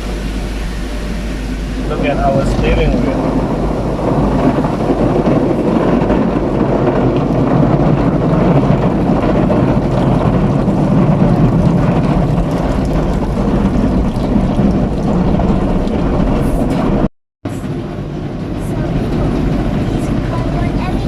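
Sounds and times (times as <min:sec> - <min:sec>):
car wash water spray and machinery: 0:00.0 - 0:21.0.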